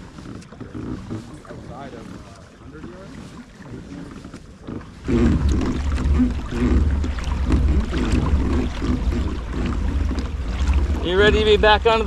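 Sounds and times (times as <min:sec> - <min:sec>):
water sloshing against hull: 0:00.0 - 0:12.0.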